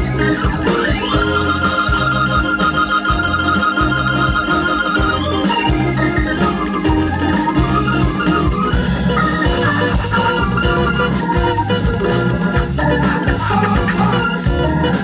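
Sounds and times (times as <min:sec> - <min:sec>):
drums: 0:00.0 - 0:15.0
jazz band playing: 0:00.0 - 0:15.0
organ playing: 0:00.0 - 0:15.0
repeating bass line: 0:00.0 - 0:15.0.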